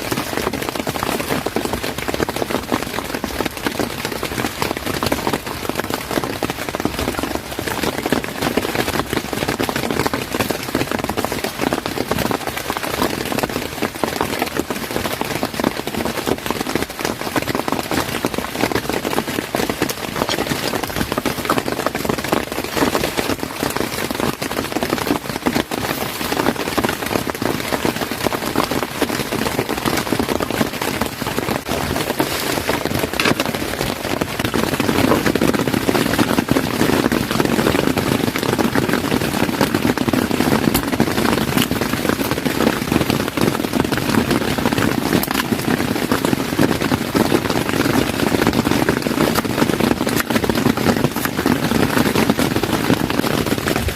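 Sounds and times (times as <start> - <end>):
deep rain drumming: 0.0 - 53.9
heavy rain hissing: 0.0 - 53.9.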